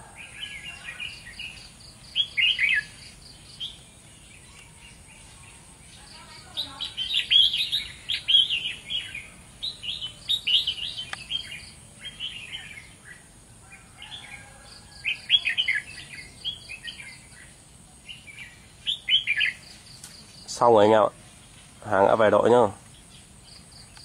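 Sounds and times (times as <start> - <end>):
birds chattering calls: 0.0 - 24.0.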